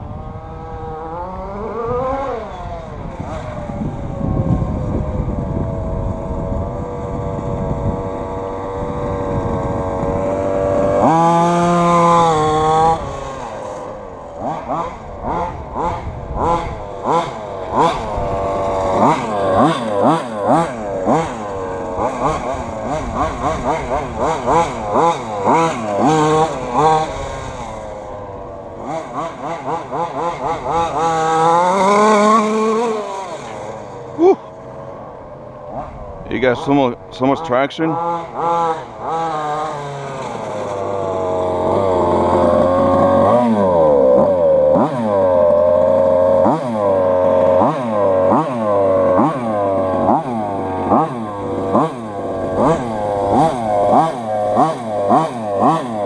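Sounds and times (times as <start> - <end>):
small two-stroke engine revving: 0.0 - 56.0.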